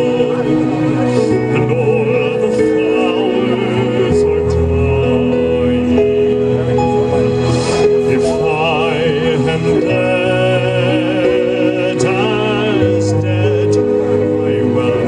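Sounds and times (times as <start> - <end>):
slow ballad music: 0.0 - 15.0.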